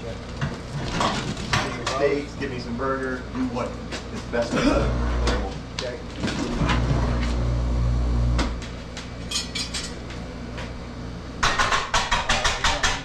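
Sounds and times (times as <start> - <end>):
low machine hum: 0.0 - 11.6.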